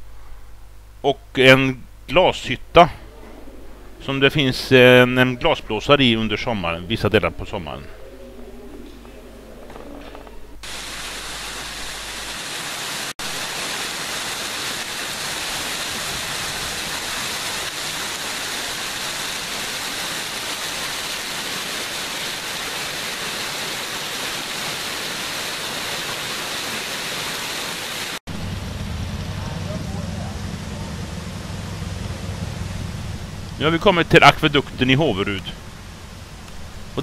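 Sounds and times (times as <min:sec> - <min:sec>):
falling water rushing: 0:02.1 - 0:37.0.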